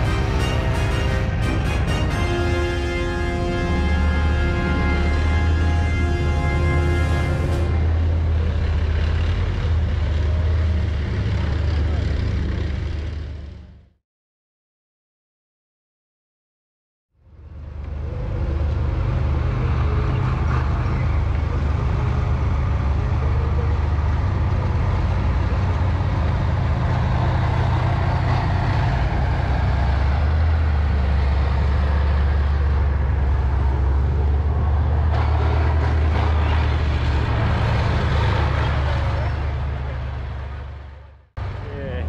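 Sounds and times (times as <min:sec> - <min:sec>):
heavy vehicle engine running: 0:00.0 - 0:13.9, 0:17.2 - 0:42.0.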